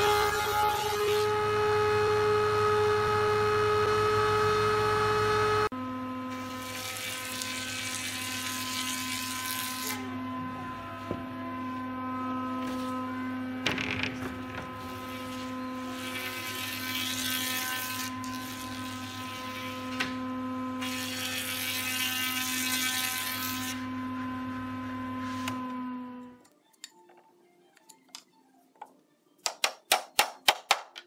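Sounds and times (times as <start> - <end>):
jointer humming and whining: 0.0 - 26.4.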